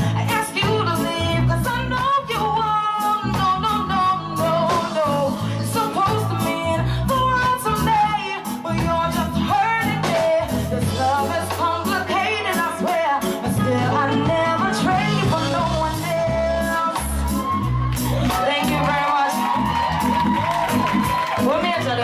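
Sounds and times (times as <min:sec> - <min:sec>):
bass line: 0:00.0 - 0:22.0
drums: 0:00.0 - 0:22.0.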